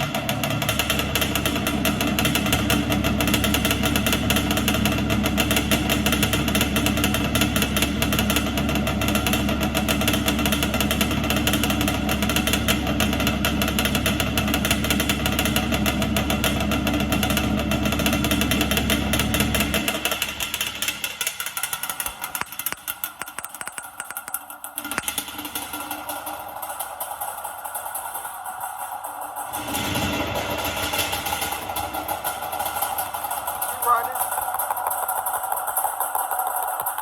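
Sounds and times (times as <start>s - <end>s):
car engine running: 0.0s - 37.0s.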